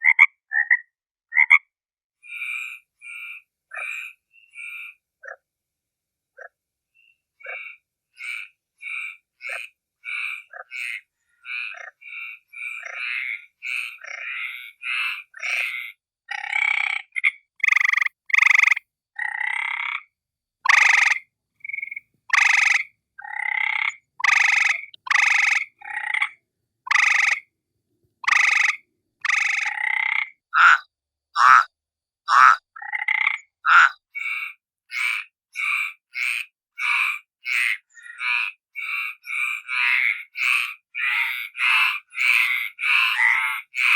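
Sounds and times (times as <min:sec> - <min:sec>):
frog croaking: 0:00.0 - 0:05.4, 0:07.4 - 0:27.5, 0:28.2 - 0:43.9.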